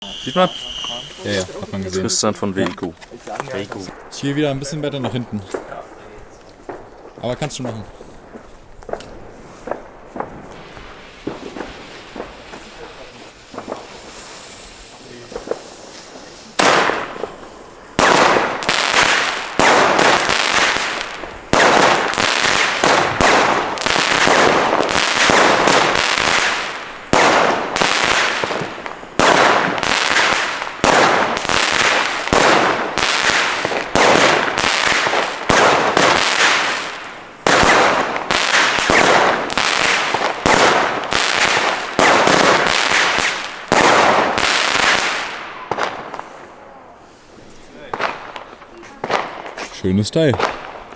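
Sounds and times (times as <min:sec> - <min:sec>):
firework bangs with crackling tails: 0:00.0 - 0:50.9.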